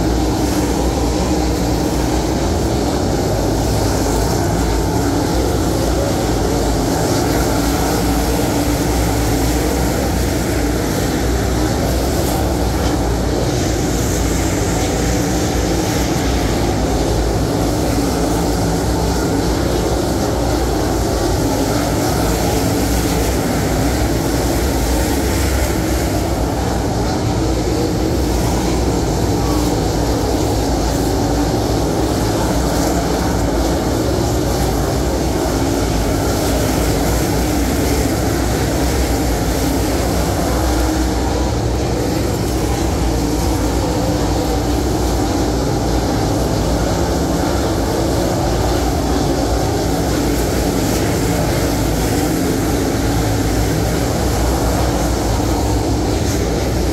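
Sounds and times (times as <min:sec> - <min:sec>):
race car engines droning: 0:00.0 - 0:56.9.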